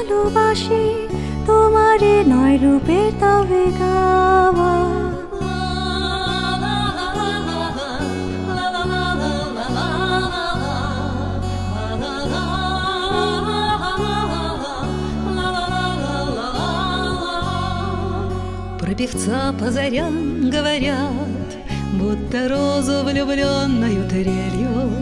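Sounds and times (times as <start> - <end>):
guitar and bass guitar: 0.0 - 25.0.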